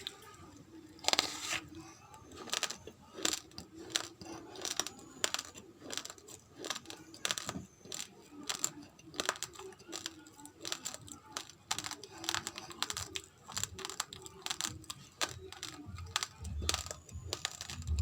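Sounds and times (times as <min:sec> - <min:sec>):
chewing crunchy rice grains: 0:00.9 - 0:18.0.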